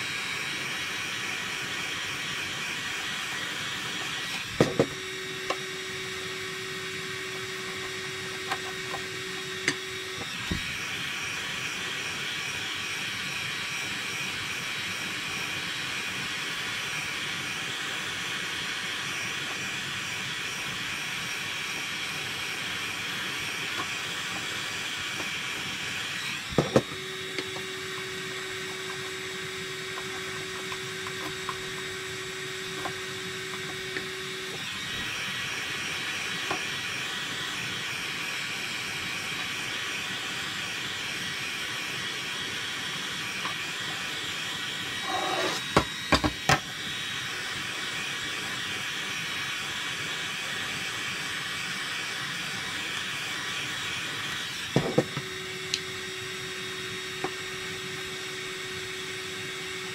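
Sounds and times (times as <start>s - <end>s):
heat gun blowing hot air: 0.0s - 59.9s.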